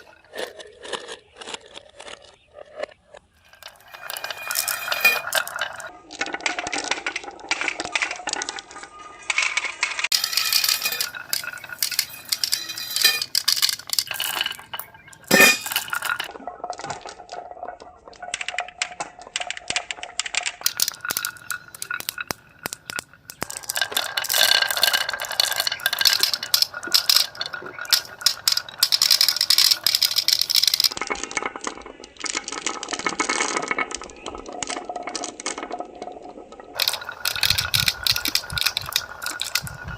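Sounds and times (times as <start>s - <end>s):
small hard objects clinking: 3.4s - 16.3s, 19.7s - 39.9s.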